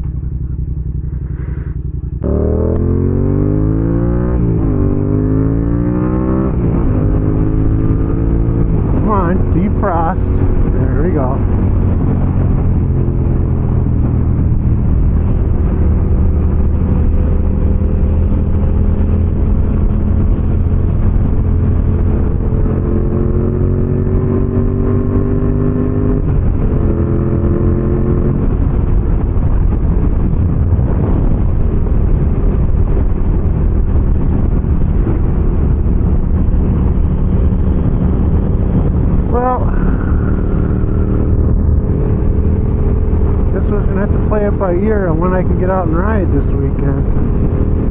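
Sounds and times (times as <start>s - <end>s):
motorcycle engine accelerating: 0.0s - 47.9s
wind and road noise: 0.0s - 47.9s.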